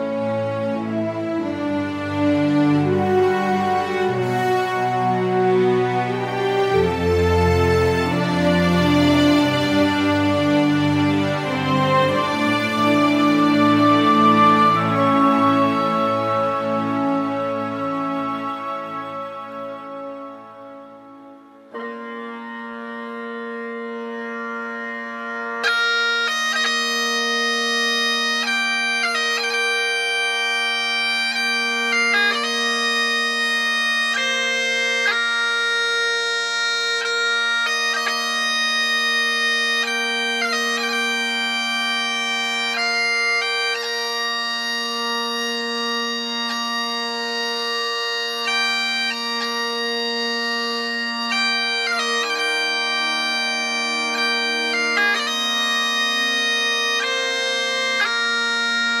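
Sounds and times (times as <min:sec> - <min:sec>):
bagpipe chanter melody: 0:00.0 - 0:59.0
bagpipe drones: 0:00.0 - 0:59.0.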